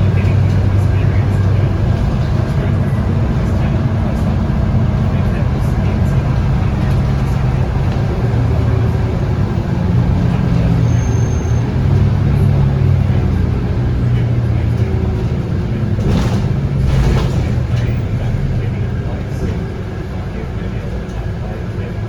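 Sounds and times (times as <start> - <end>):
bus diesel engine running: 0.0 - 22.0
road noise: 0.0 - 22.0.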